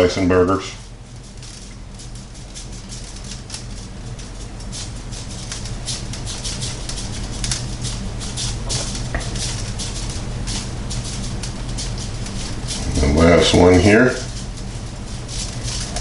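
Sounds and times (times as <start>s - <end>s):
low hum: 0.0s - 16.0s
seasoning shaker rattling: 0.7s - 16.0s.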